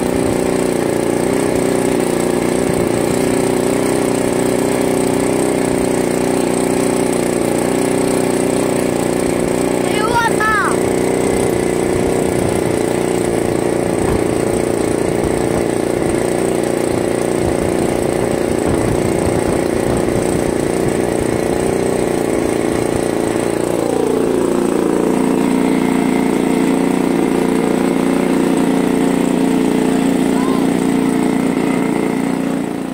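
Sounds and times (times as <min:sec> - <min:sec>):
model aeroplane engine running: 0:00.0 - 0:32.9.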